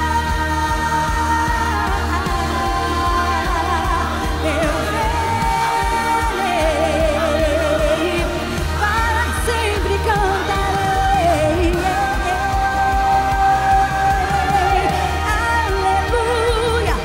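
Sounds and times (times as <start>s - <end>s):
instrumental accompaniment with beat: 0.0s - 17.0s
woman singing: 0.0s - 17.0s.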